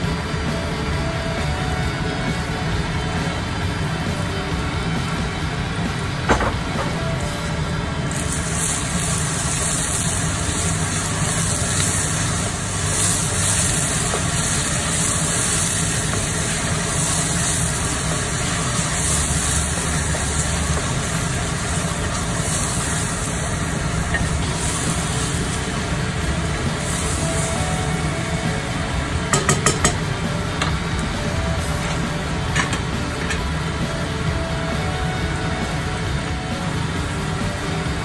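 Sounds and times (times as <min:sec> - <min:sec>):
steady low hum: 0:00.0 - 0:38.0
meat and onions sizzling: 0:00.1 - 0:38.0.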